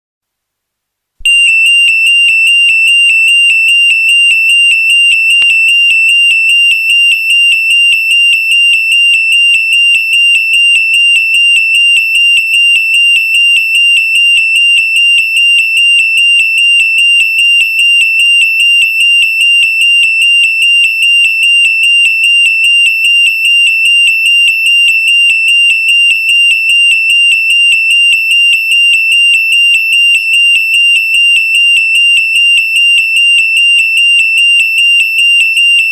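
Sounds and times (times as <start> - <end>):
burglar alarm pulsing tone: 1.2 - 35.9.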